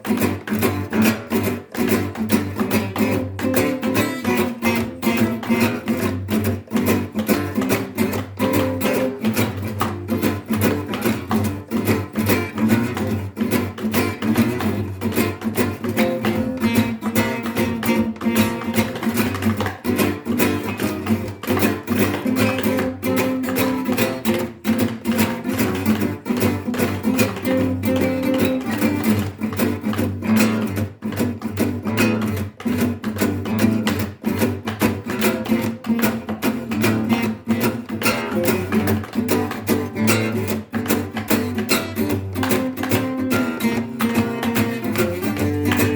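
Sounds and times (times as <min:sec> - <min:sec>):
acoustic guitar strumming: 0:00.0 - 0:45.9.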